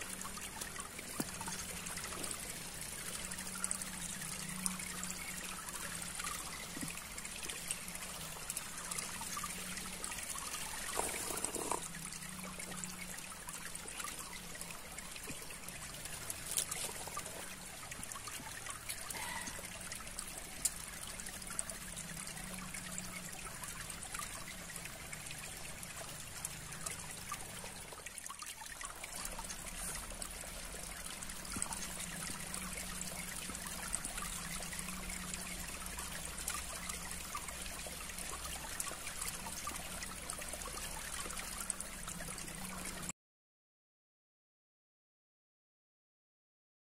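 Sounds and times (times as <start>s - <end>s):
trickling water: 0.0s - 43.1s.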